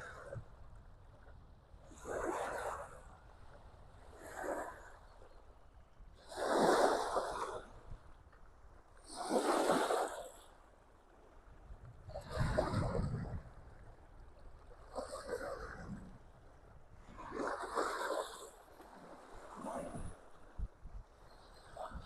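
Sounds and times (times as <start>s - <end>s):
small waves lapping on shore: 0.0s - 22.0s.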